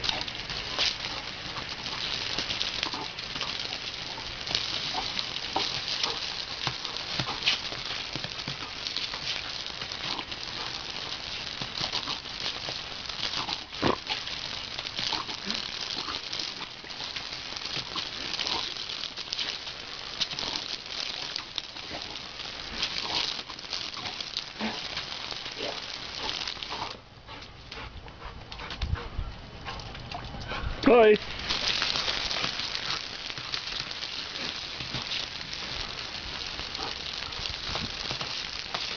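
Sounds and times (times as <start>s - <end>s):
hose spray hissing on paving: 0.0s - 27.4s, 30.9s - 38.9s.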